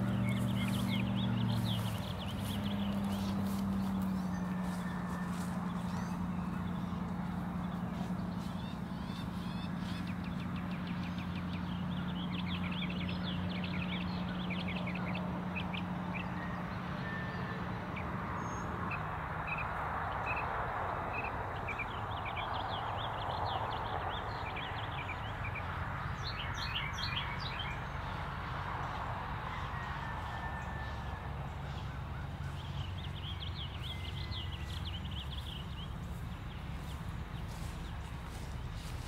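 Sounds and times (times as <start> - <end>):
soft background rush: 0.0 - 39.0
songbirds chirping: 0.0 - 39.0.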